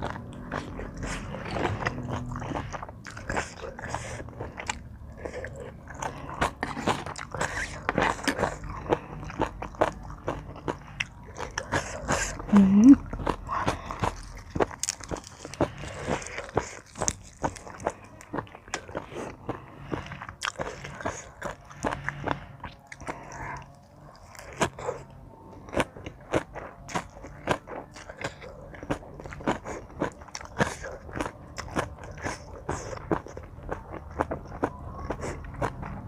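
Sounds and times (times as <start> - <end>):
chewing and crunching food: 0.0 - 36.0.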